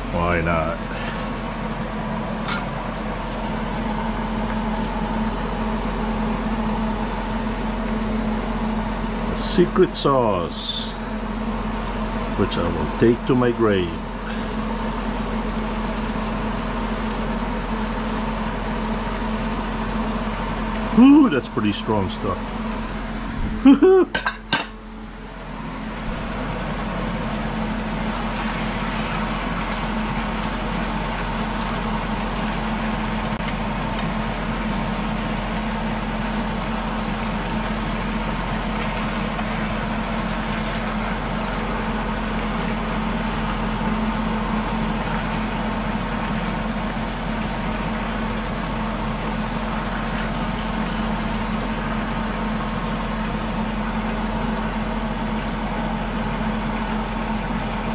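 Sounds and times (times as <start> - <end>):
low steady hum: 0.0 - 57.9.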